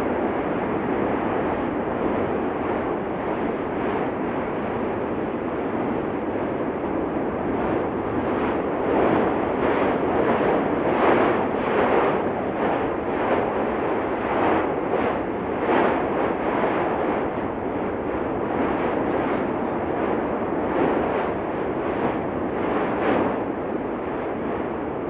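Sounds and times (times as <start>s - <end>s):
volcano rushing rumble: 0.0s - 25.0s.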